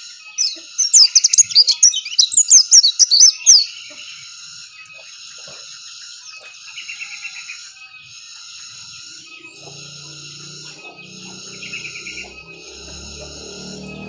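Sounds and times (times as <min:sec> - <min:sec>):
bird singing high chirps: 0:00.0 - 0:14.0
bird trill: 0:00.0 - 0:14.0.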